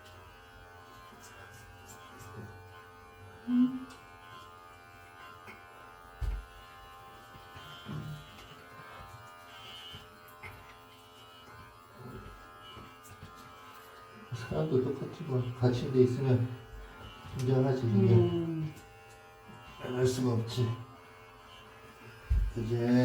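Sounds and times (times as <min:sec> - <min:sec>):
electric hair clipper buzzing: 0:00.0 - 0:23.0.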